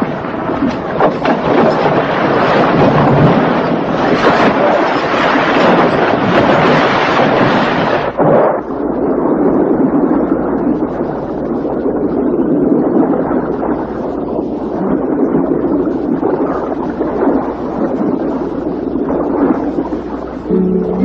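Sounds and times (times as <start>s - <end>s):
muffled underwater bubbles: 0.0s - 21.0s.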